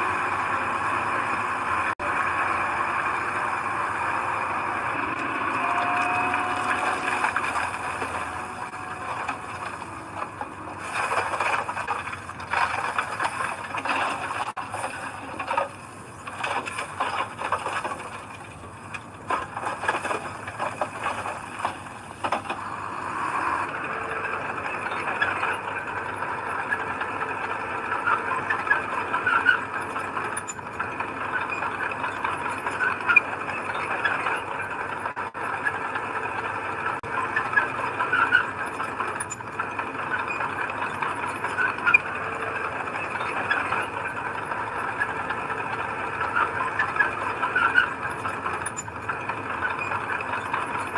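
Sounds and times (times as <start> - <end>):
heavy machinery engine running: 0.0 - 50.9
machinery squealing and rattling: 0.0 - 50.9.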